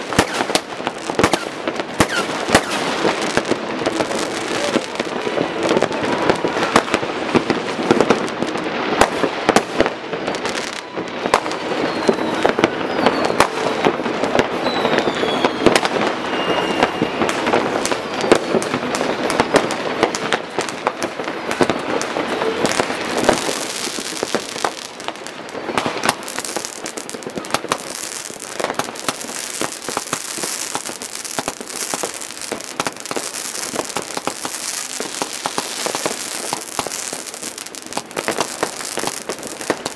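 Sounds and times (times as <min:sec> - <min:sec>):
falling firework whistles: 0:00.0 - 0:04.9, 0:10.2 - 0:19.7, 0:21.5 - 0:39.9
fireworks banging and crackling: 0:00.0 - 0:39.9.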